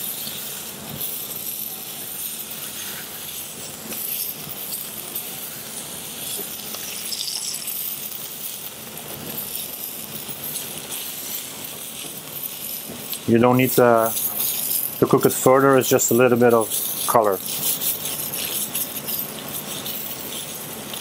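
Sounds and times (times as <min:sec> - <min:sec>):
meat sizzling on hot plate: 0:00.0 - 0:21.0
metal tongs clinking: 0:00.0 - 0:21.0.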